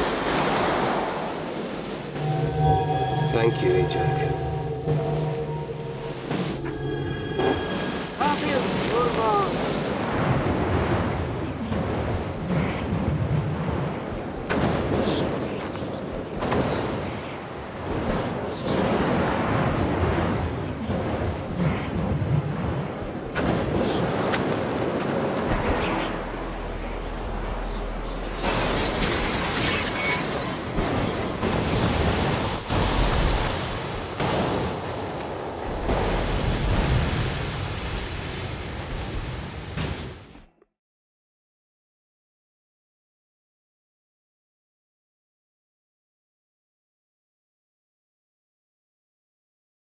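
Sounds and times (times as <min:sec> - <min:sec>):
ocean surf: 0:00.0 - 0:40.4
waves breaking: 0:00.0 - 0:40.4
wind: 0:00.0 - 0:40.6.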